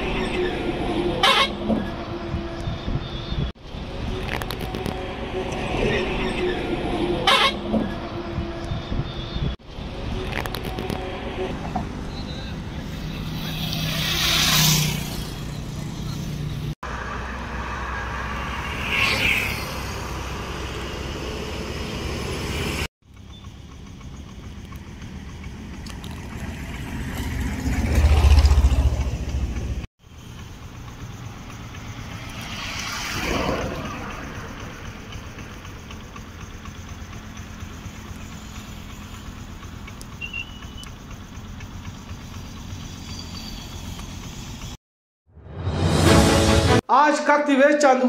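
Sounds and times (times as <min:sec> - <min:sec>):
vehicles passing with deep rumble: 0:00.0 - 0:44.8.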